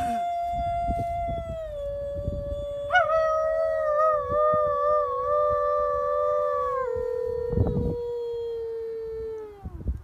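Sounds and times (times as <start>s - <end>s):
woman howling: 0.0s - 9.7s.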